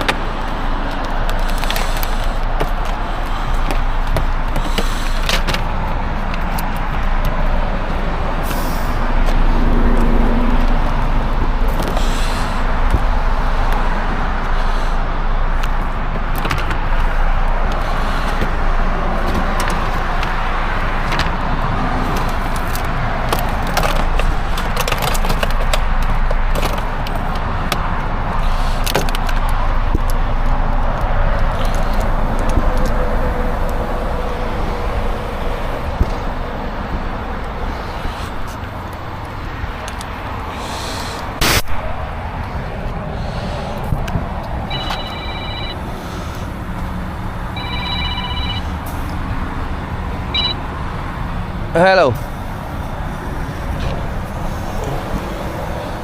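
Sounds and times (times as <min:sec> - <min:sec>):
roadside traffic: 0:00.0 - 0:56.0.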